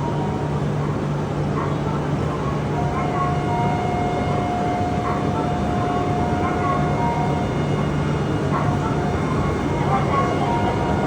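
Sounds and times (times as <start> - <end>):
station and train noise: 0.0 - 11.0.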